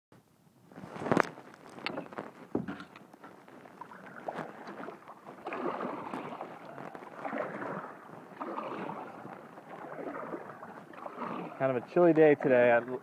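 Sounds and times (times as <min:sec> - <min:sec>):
paddle strokes swishing through water: 0:00.7 - 0:13.0.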